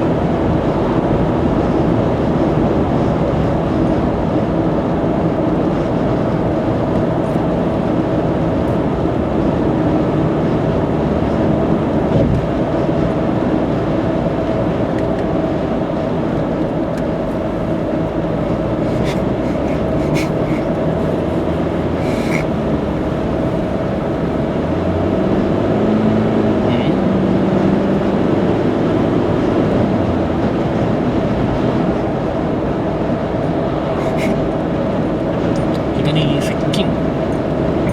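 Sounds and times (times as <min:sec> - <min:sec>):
engine drone: 0:00.0 - 0:37.9
road and tyre noise: 0:00.0 - 0:37.9.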